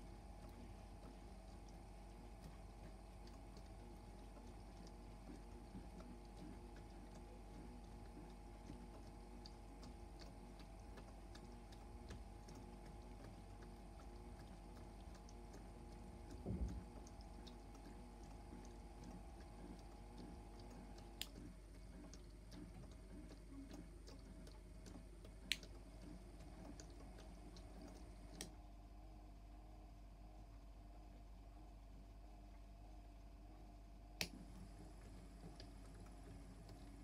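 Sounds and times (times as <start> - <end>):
toy washing machine motor hum: 0.0 - 29.2, 34.2 - 37.0.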